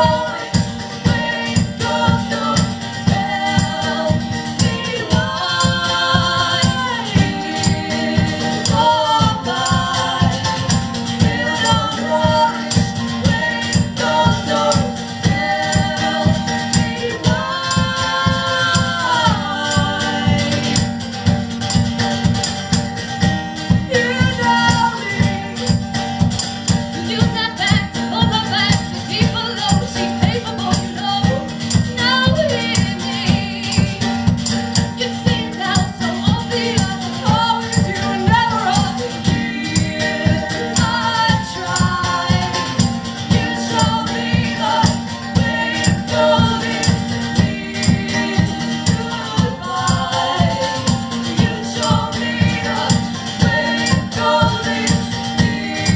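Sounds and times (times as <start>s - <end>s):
live band with singing: 0.0s - 55.9s.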